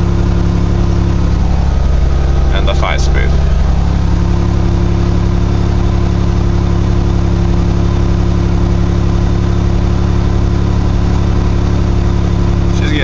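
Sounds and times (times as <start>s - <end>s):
engine running at fast idle: 0.0s - 13.0s.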